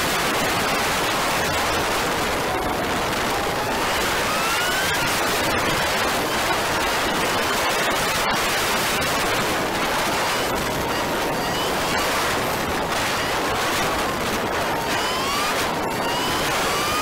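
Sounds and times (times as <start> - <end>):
faint whine: 0.0 - 17.0
wind rushing over microphone: 0.0 - 17.0.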